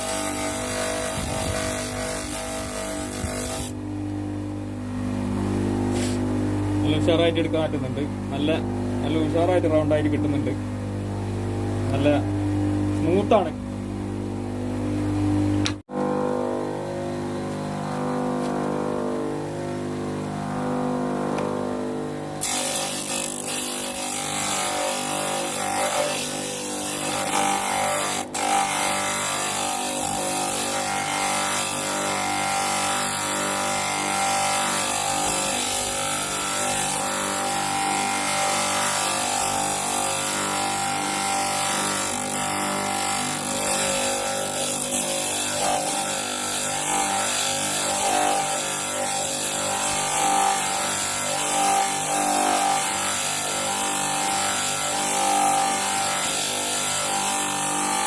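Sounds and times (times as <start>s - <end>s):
bench grinder running: 0.0s - 58.0s.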